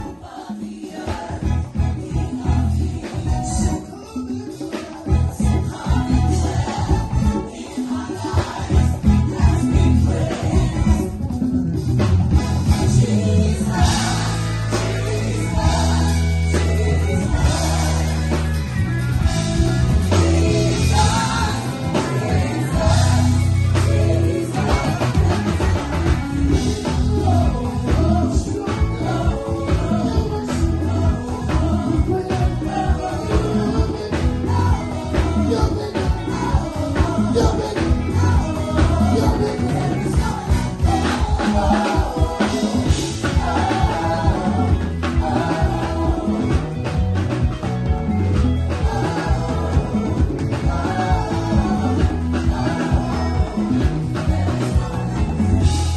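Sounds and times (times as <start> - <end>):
bass guitar: 0.0 - 55.9
drums: 0.0 - 55.9
live gospel band playing: 0.0 - 55.9.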